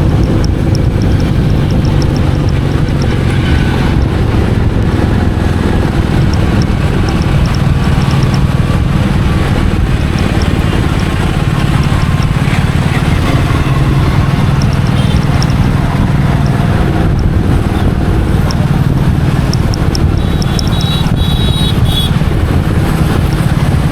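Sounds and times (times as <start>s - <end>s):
wind rushing: 0.0s - 20.4s
motorcycle engine running: 0.0s - 23.9s
road noise: 0.0s - 23.9s.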